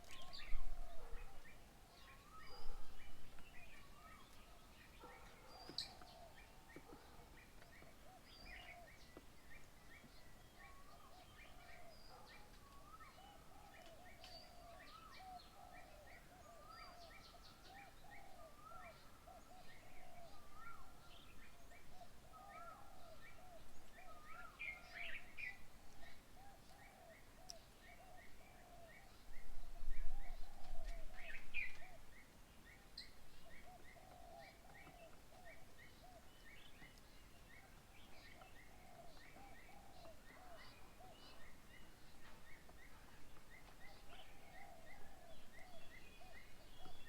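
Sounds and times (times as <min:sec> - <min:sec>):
faint birds calling: 0:00.0 - 0:47.0.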